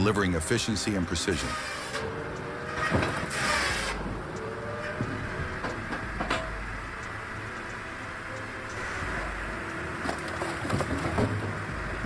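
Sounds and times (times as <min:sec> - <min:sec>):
firewood processor rumbling: 0:00.0 - 0:12.0.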